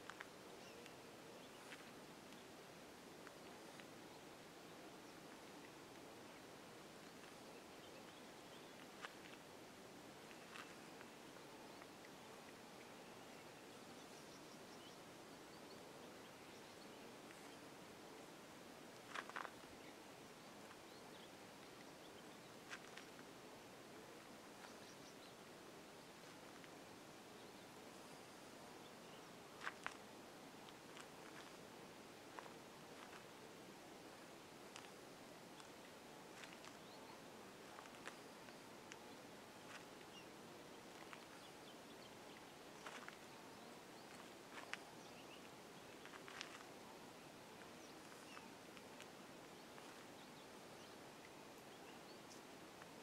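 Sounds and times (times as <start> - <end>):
soft hiss: 0.0 - 53.0.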